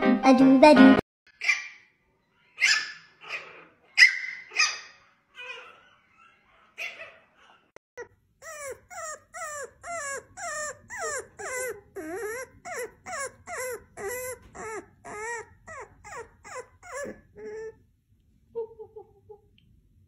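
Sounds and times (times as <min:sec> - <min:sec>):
puppy whining and yelping: 0:01.4 - 0:18.0.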